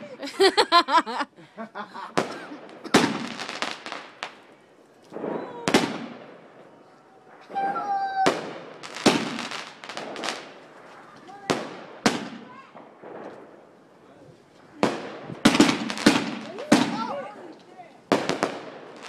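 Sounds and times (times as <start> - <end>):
fireworks bangs: 2.0 - 19.0
crackling echoing decay: 2.1 - 7.6, 8.2 - 19.0.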